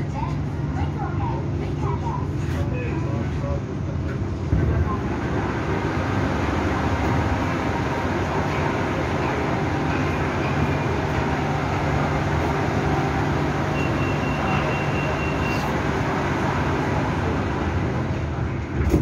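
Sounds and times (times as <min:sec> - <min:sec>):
steady train car hum: 0:00.0 - 0:19.0.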